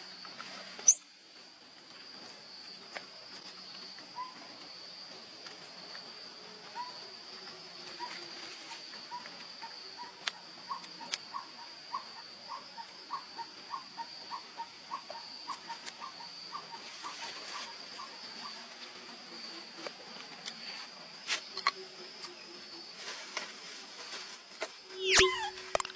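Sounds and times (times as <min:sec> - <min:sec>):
high-pitched insect trill: 0:00.0 - 0:01.1, 0:02.5 - 0:25.9.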